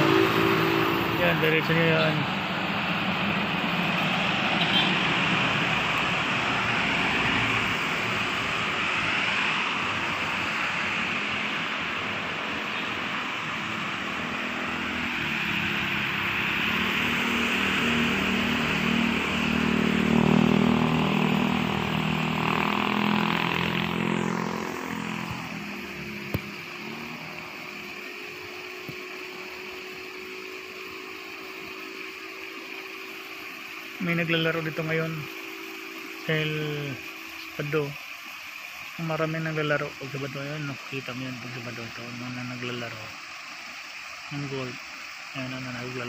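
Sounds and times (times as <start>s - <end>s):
vehicle engine hum: 0.0s - 38.2s
road traffic passing: 0.0s - 39.8s.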